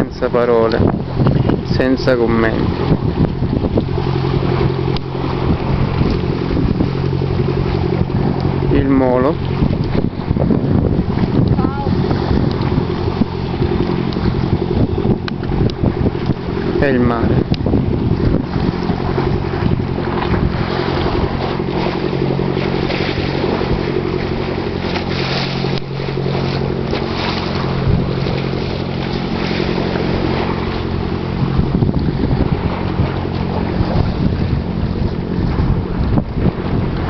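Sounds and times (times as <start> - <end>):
choppy sea water against pier: 0.0 - 37.0
low engine hum: 0.0 - 37.0
wind buffeting microphone: 0.0 - 37.0.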